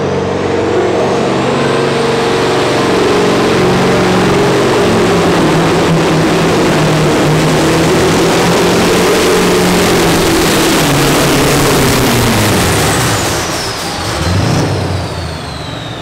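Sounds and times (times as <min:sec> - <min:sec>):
diesel truck engine at high revs: 0:00.0 - 0:16.0.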